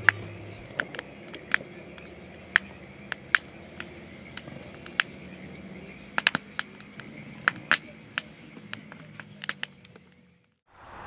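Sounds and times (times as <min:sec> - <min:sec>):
campfire crackling and popping: 0:00.0 - 0:10.6.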